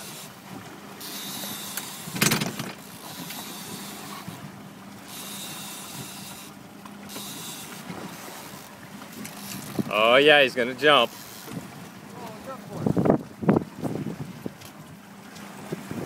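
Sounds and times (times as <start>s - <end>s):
boat engine running: 0.0s - 16.0s
wind and water hiss: 0.0s - 16.0s.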